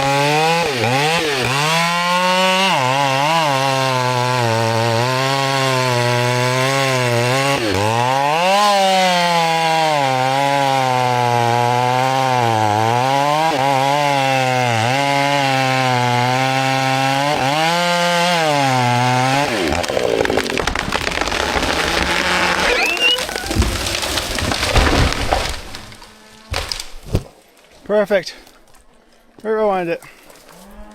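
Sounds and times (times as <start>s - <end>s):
chainsaw cutting: 0.0s - 27.4s
tree cracking and crashing: 0.0s - 29.1s.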